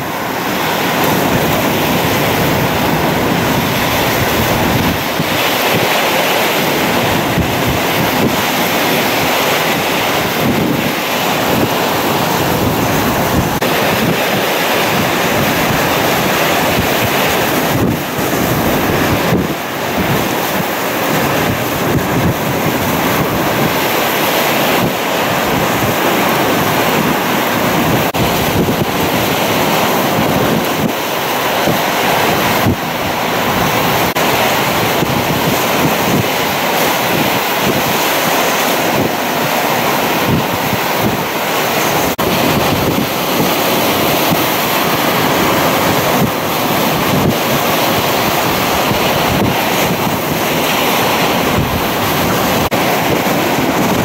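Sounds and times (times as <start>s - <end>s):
howling wind: 0.0s - 54.0s
wind buffeting microphone: 0.0s - 54.0s
wind-driven rain: 0.0s - 54.0s.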